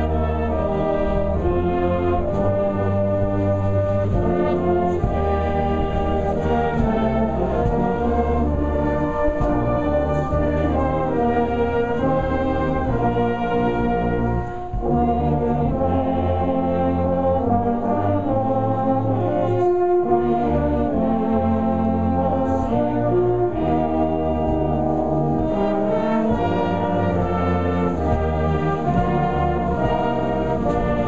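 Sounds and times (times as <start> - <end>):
brass band playing a hymn: 0.0 - 31.0.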